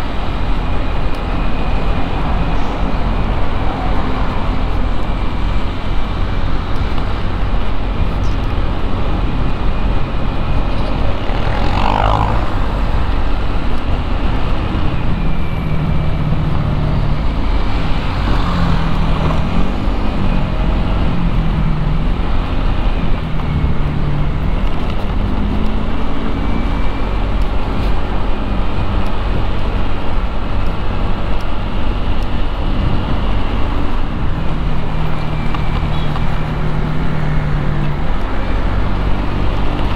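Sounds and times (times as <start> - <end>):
road traffic engines droning: 0.0 - 39.9.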